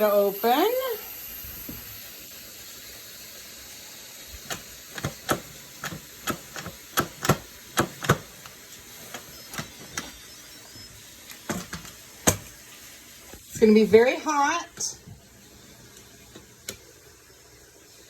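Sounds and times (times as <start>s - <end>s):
faint high steam hiss: 0.0s - 18.0s.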